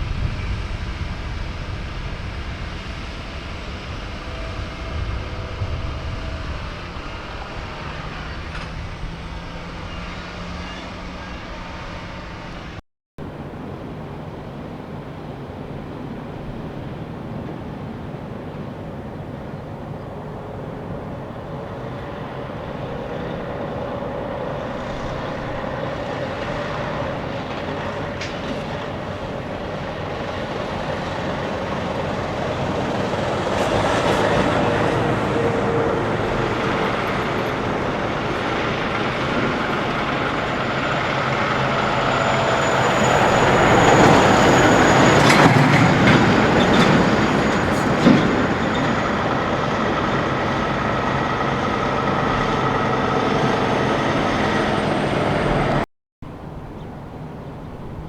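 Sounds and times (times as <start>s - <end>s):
large vehicle passing: 0.0s - 14.6s, 19.1s - 55.9s.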